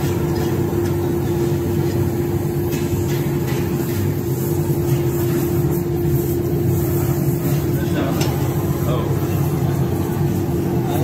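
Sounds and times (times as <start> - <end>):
steady hum: 0.0 - 11.0
torch flame roaring: 0.0 - 11.0.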